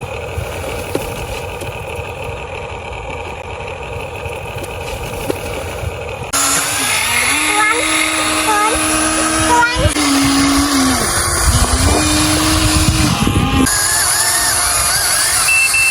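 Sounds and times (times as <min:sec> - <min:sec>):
toy excavator mechanical hum: 0:00.0 - 0:15.9.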